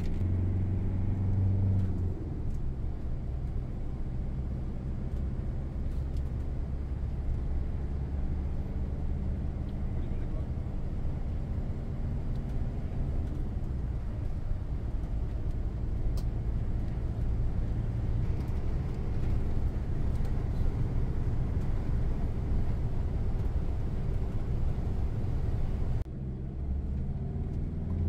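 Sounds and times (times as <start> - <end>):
tyre noise on wet road: 0.0 - 26.0
vehicle cabin engine rumble: 0.0 - 28.0.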